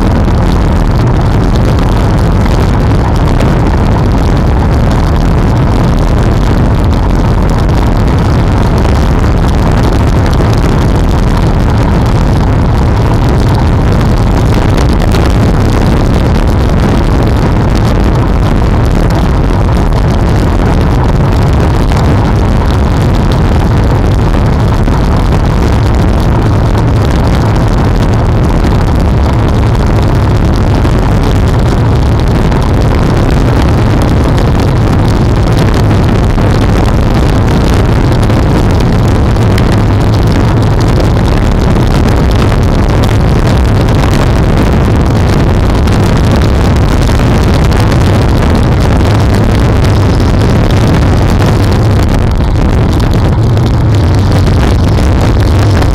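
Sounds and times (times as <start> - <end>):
motorcycle and car traffic rumble: 0.0 - 55.9
wind and road noise: 0.0 - 55.9.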